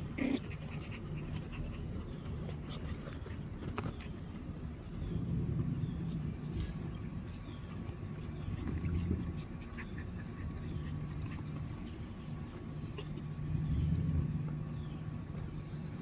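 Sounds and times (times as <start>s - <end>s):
low hum: 0.0s - 16.0s
puppies whining: 0.0s - 16.0s.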